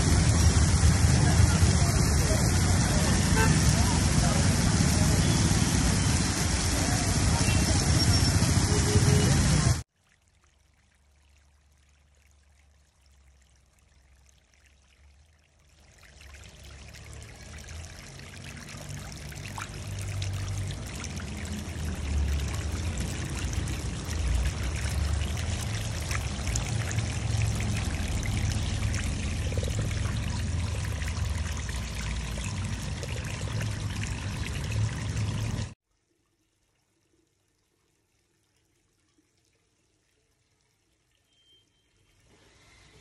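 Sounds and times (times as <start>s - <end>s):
fountain water splashing: 0.0s - 35.8s.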